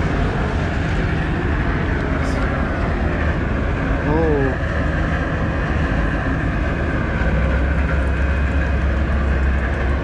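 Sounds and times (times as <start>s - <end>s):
road and tram traffic rumble: 0.0s - 10.0s.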